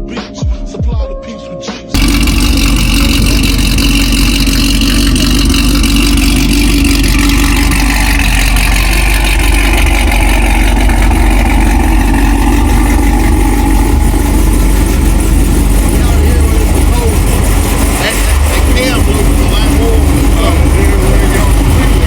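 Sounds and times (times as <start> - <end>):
loud car engine running: 2.0 - 22.0.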